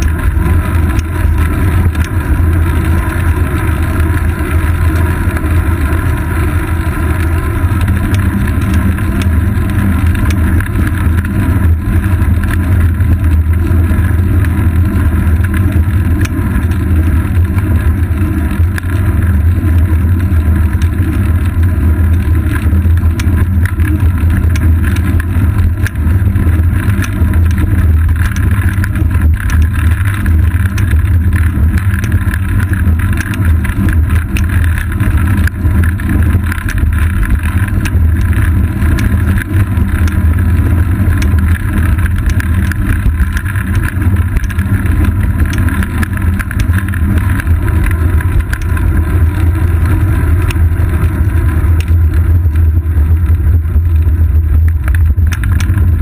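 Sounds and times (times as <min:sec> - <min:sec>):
bike clicks and rattles: 0:00.0 - 0:56.0
wind and road rumble: 0:00.0 - 0:56.0.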